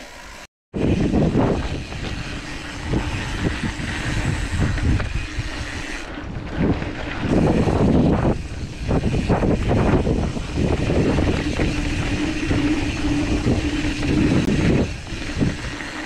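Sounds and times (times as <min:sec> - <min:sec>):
wind buffeting microphone: 0:00.7 - 0:16.0
bike rattling and knocking: 0:00.8 - 0:16.0
bike tyres rumbling on dirt: 0:00.8 - 0:16.0.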